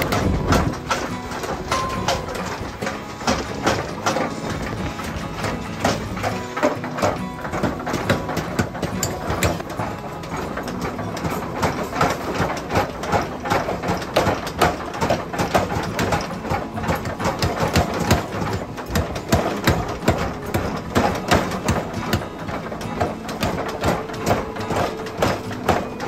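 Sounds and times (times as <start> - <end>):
power hammer metal blows: 0.0 - 26.0.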